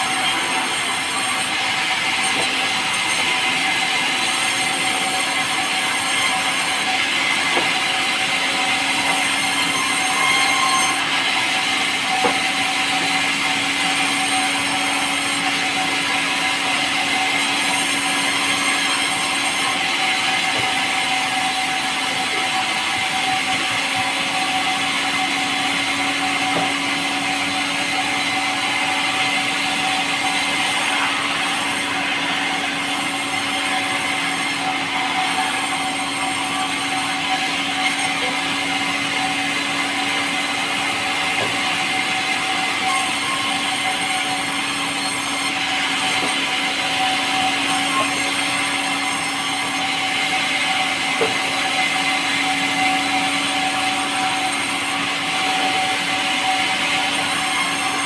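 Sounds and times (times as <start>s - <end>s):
power saw cutting wood: 0.0s - 58.0s.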